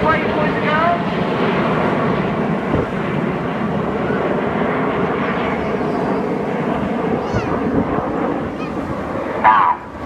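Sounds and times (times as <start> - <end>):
jet aircraft noise: 0.0 - 10.0.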